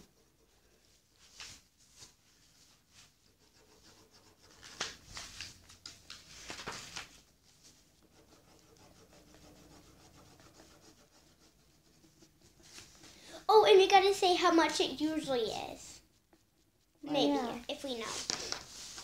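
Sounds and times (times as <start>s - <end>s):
marker scratching on paper: 0.0s - 6.3s, 7.2s - 13.2s, 14.4s - 19.0s.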